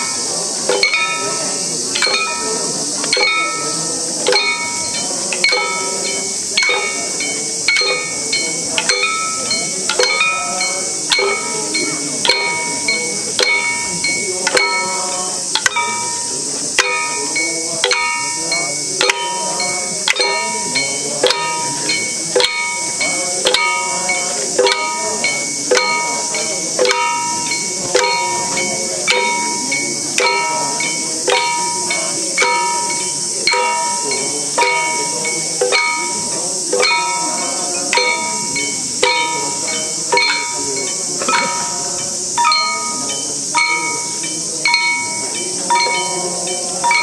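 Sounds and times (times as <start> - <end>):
steady high hiss: 0.0 - 47.0.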